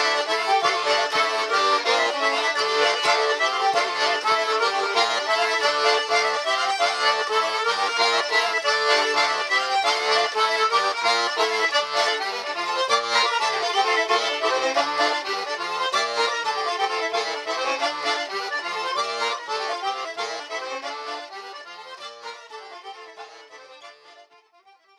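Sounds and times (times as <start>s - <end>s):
accordion music: 0.0s - 24.9s.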